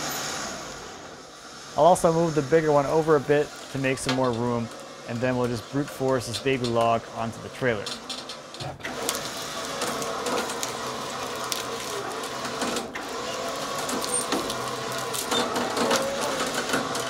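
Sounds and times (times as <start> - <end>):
bark scraping over trailer: 0.0 - 17.0
winch running under load: 0.0 - 17.0.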